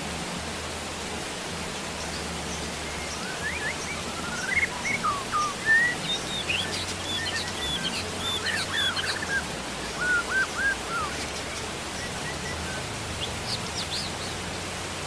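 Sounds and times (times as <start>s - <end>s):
rain hiss: 0.0s - 15.0s
birds chirping: 1.8s - 15.0s.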